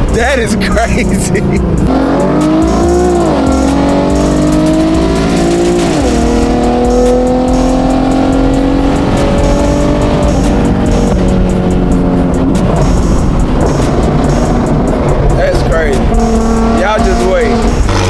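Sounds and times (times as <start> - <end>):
car engine from inside cabin: 0.2 - 18.0.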